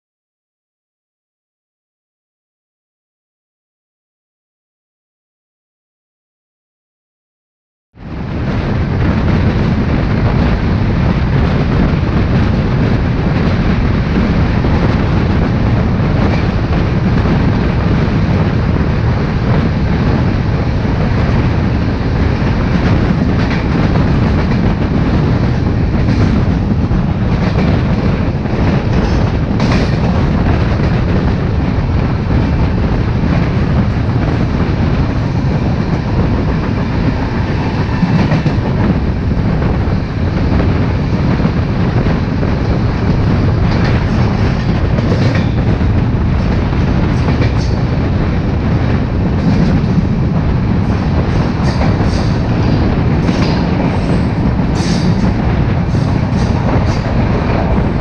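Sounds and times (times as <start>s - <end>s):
train rumble with wheel clatter: 8.0s - 58.0s.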